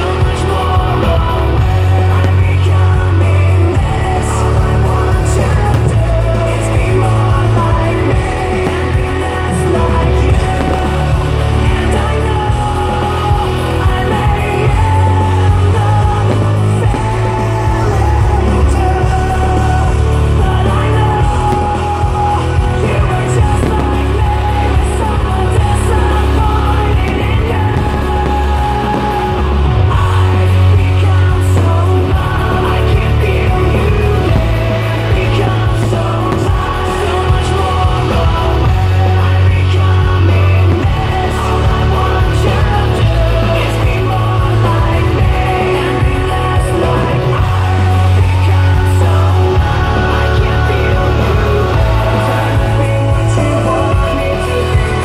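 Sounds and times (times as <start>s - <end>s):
heavy bass line: 0.0s - 55.0s
person singing: 0.0s - 55.0s.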